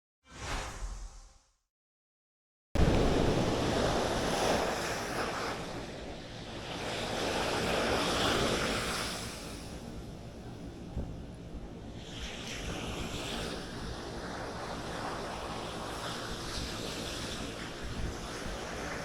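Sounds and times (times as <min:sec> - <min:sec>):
surf breaking on a beach: 0:02.8 - 0:19.0
wind buffeting the microphone: 0:02.8 - 0:19.0.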